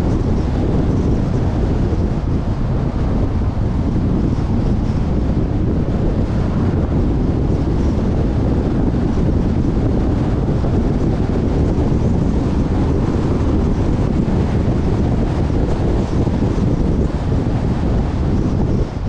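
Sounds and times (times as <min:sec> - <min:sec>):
car road noise: 0:00.0 - 0:19.0
wind on microphone: 0:00.0 - 0:19.0.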